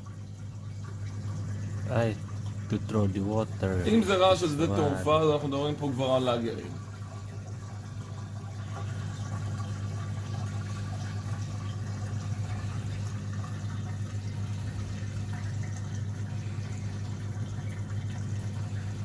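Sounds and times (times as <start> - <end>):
washing machine pump humming: 0.0 - 19.0.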